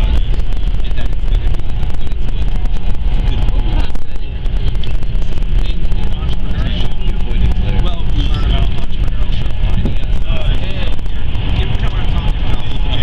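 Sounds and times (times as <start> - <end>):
train cabin rumble: 0.0 - 13.0
wind and track noise: 0.0 - 13.0.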